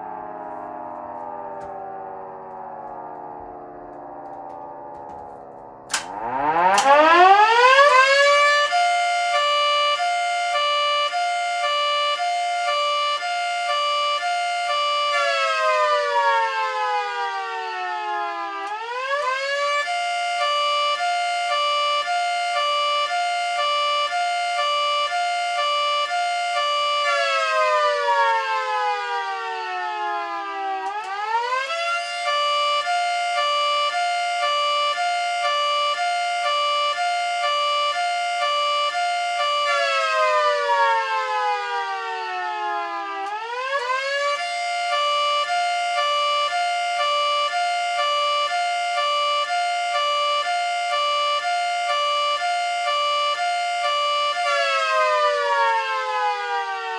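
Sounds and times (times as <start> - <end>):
siren wailing: 0.0 - 56.9.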